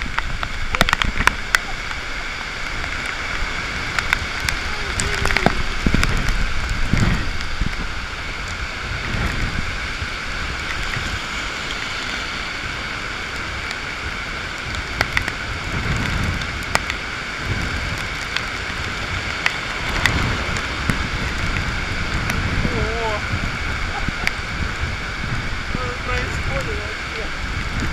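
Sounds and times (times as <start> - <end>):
heavy rain pouring: 0.0 - 27.9
wind rumbling on microphone: 0.0 - 27.9.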